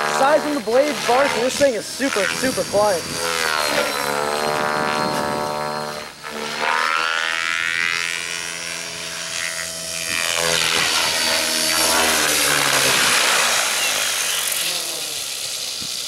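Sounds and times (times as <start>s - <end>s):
rc helicopter motor whine: 0.0s - 16.0s
rotor blades rushing: 0.0s - 16.0s.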